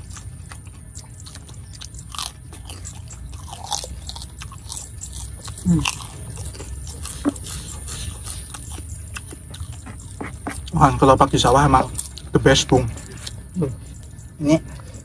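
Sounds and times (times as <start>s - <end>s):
mouth sounds of eating: 0.0s - 15.0s.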